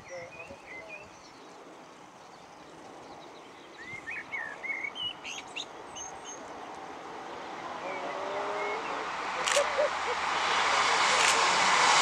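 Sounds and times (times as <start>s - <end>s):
songbirds chirping and singing: 0.0s - 10.1s
outdoor background hiss: 0.0s - 12.0s.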